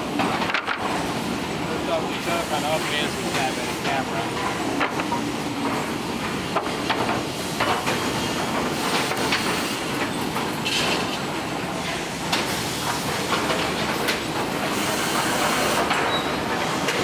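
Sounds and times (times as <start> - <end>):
motors and conveyors running: 0.0 - 17.0.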